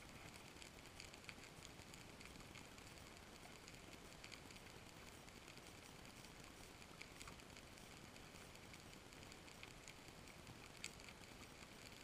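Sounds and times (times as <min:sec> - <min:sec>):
faint sharp clicks: 0:00.0 - 0:12.0
faint steady hiss: 0:00.0 - 0:12.0.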